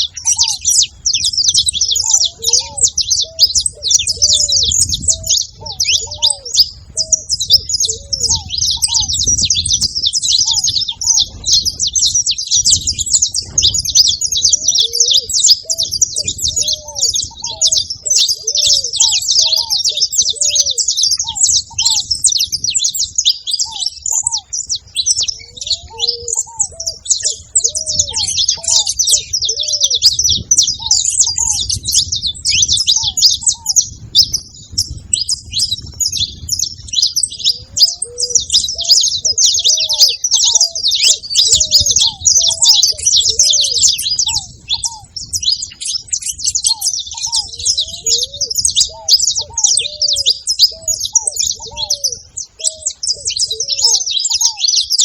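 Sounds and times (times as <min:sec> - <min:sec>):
finches chirping and singing: 0:00.0 - 0:55.0
lower arched bird notes: 0:00.0 - 0:55.0.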